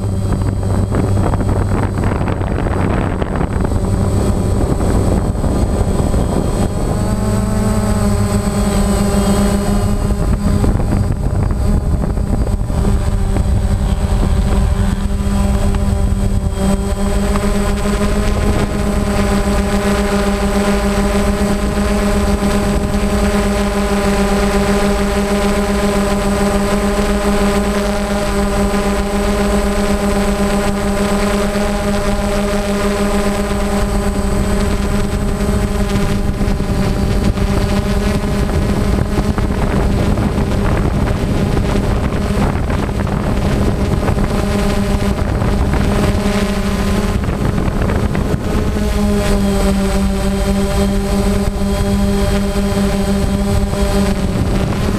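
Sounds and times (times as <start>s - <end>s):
drone propellers humming: 0.0s - 54.9s
wind rumble on microphone: 0.0s - 54.9s.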